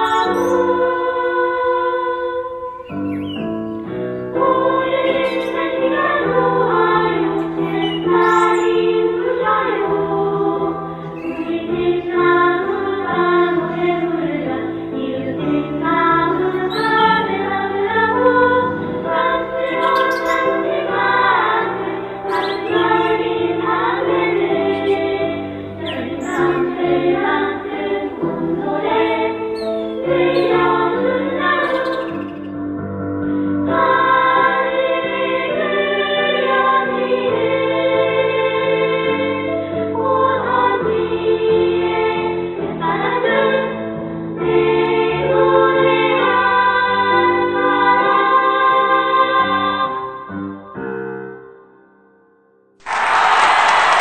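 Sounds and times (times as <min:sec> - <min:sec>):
children's choir singing: 0:00.0 - 0:03.6, 0:04.3 - 0:32.5, 0:33.7 - 0:50.0, 0:52.8 - 0:54.0.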